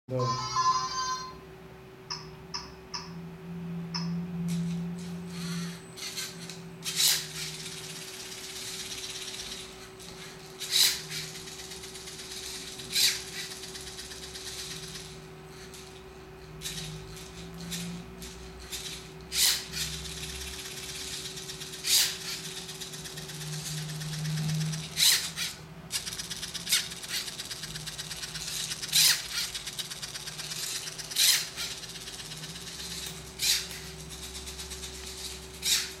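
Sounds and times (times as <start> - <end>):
motor whirring: 5.0 - 16.0, 16.6 - 36.0.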